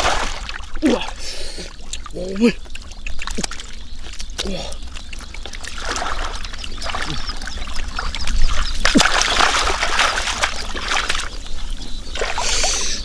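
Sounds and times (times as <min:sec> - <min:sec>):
splashing in shallow water: 0:00.0 - 0:01.2, 0:01.8 - 0:13.0.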